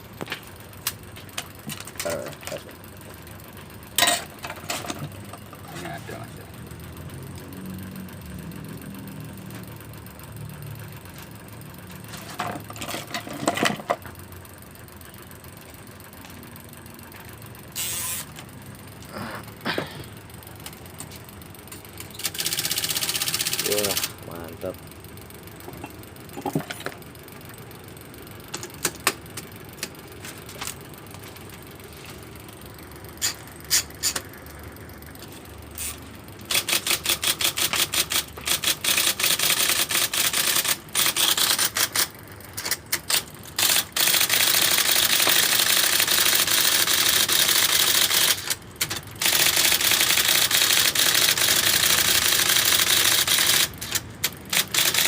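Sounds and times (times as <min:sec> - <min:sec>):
electric typewriter typing: 0:00.0 - 0:14.5, 0:17.1 - 0:18.7, 0:19.8 - 0:55.0.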